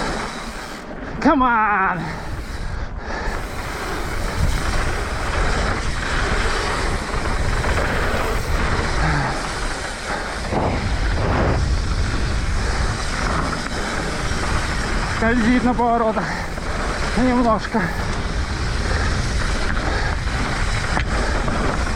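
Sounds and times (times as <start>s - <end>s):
bike tyre noise and rattle: 0.0s - 21.9s
wind buffeting microphone: 0.0s - 21.9s.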